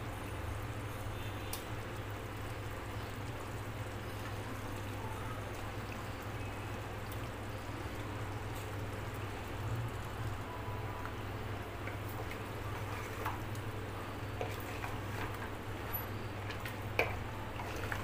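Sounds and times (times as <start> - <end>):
gravy bubbling in pressure cooker: 0.0 - 18.0.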